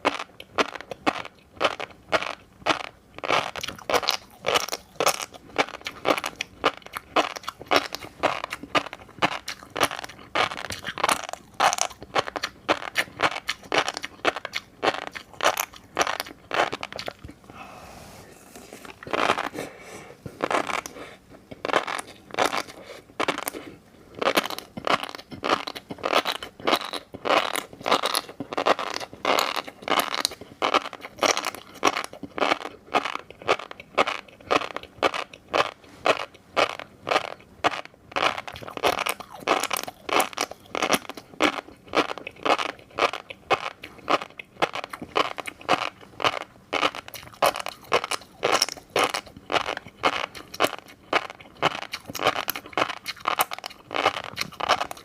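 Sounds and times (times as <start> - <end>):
chewing with crunches and pops: 0.0 - 17.6, 18.5 - 55.0.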